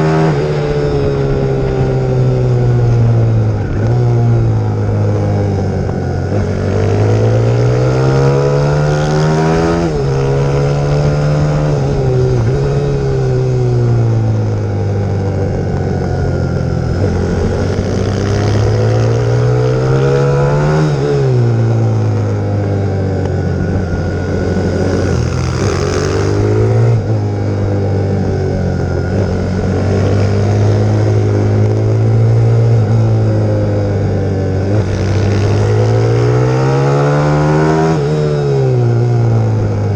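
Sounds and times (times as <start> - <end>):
motorbike engine accelerating: 0.0 - 39.9.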